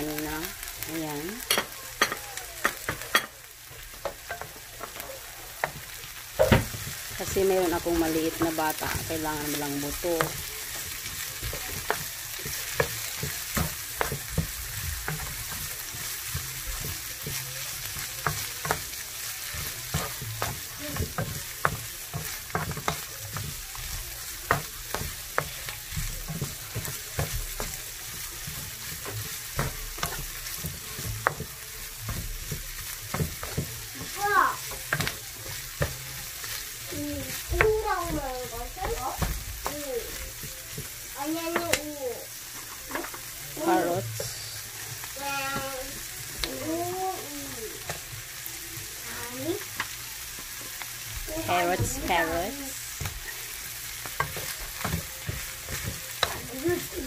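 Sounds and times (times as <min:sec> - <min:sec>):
chicken and onions sizzling: 0:00.0 - 0:57.0.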